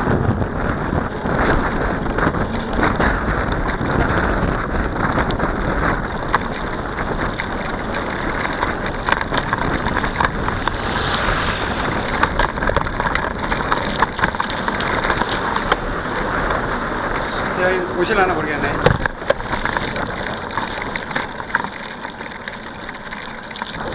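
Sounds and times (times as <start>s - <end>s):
wind rush: 0.0s - 20.6s
bicycle clicks and rattles: 0.0s - 23.9s
bicycle tyre noise: 0.0s - 23.9s.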